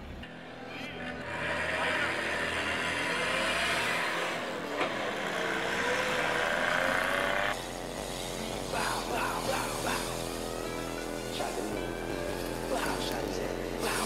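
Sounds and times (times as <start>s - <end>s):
vehicle engines revving: 0.8s - 14.0s.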